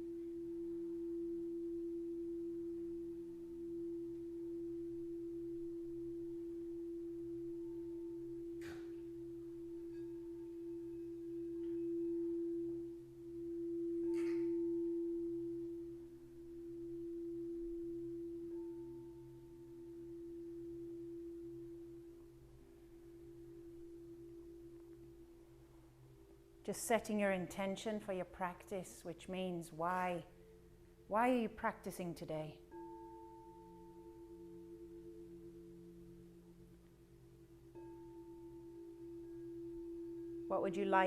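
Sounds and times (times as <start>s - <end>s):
singing bowl humming: 0.0s - 41.0s.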